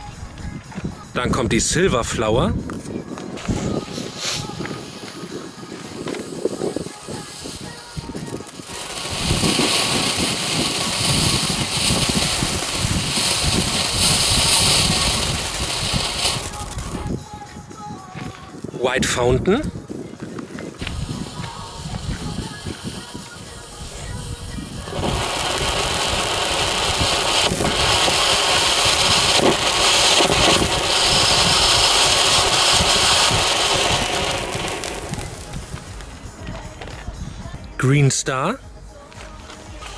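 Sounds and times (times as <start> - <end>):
firework fountain hissing sparks: 2.8 - 37.6.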